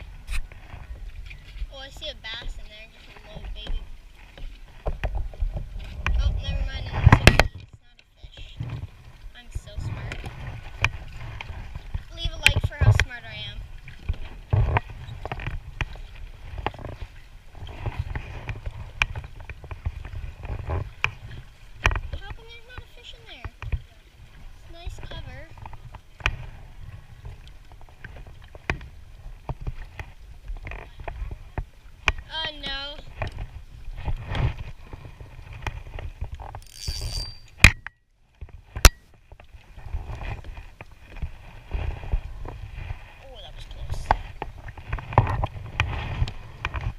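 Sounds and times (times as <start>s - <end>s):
knocks and clicks on a kayak: 2.3s - 9.2s, 9.8s - 23.9s, 24.8s - 42.9s, 43.8s - 46.9s.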